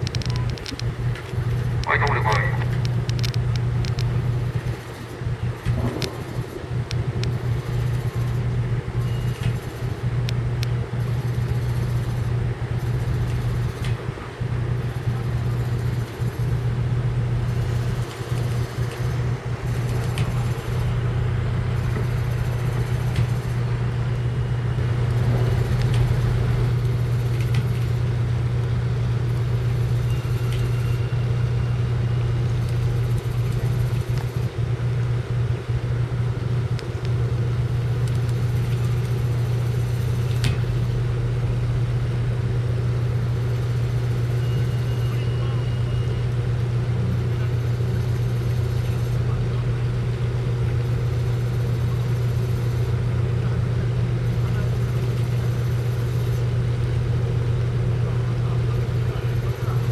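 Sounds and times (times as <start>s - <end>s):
ship engines humming: 0.0s - 59.9s.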